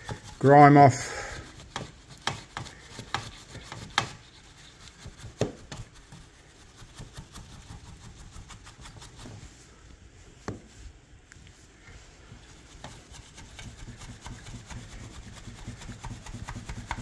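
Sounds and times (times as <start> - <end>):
brush scrubbing circuit board: 0.0 - 9.3, 12.5 - 17.0.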